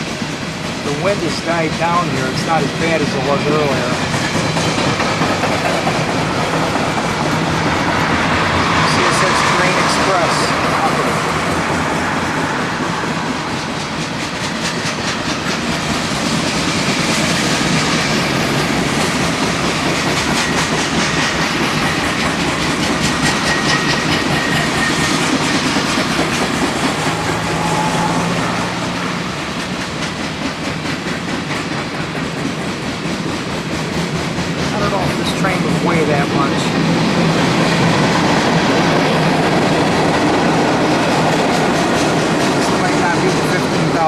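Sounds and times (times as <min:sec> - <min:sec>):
freight train cars rolling past: 0:00.0 - 0:44.0
train wheels clicking over rail joints: 0:00.0 - 0:44.0.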